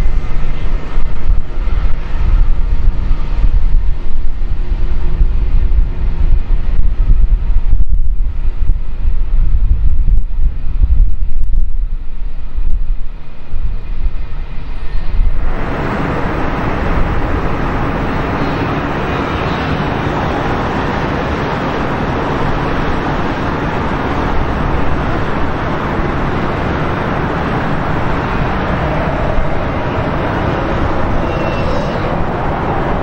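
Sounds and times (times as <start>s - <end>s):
jet engines roaring steadily: 0.0s - 9.6s, 15.1s - 33.0s.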